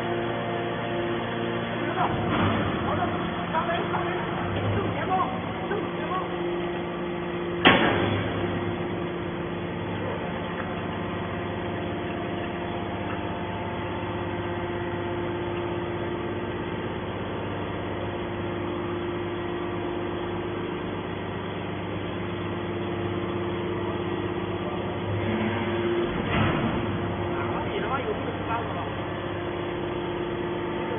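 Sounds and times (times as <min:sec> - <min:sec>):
hydraulic motor and pump humming: 0:00.0 - 0:30.9.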